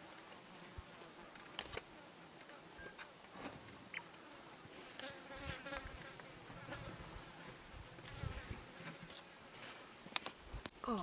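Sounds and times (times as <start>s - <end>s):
insects buzzing faintly: 0.0s - 11.0s.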